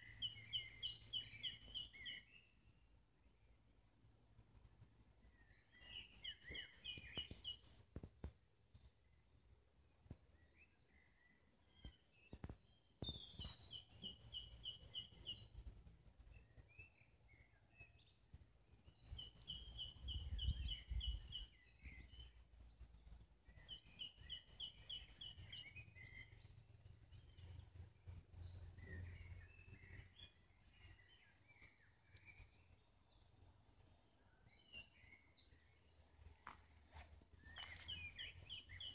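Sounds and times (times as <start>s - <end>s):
faint bird chirps: 0.0s - 3.6s, 4.5s - 8.1s, 10.0s - 38.9s
songbird singing: 0.0s - 38.9s.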